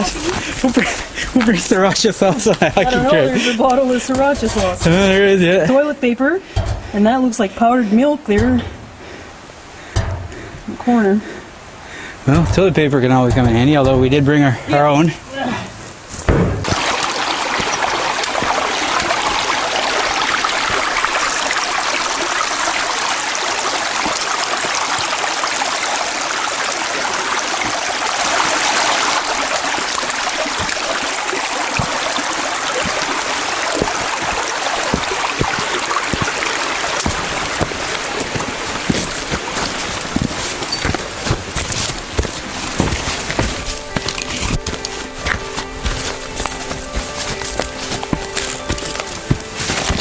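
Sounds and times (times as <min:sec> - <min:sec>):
stream flowing: 0:00.0 - 0:50.0.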